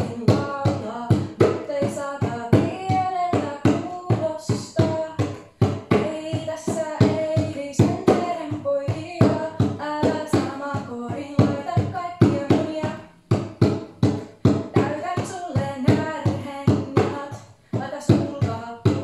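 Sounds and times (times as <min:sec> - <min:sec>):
woman singing: 0:00.0 - 0:13.2, 0:14.0 - 0:19.0
djembe hand drumming: 0:00.0 - 0:19.0.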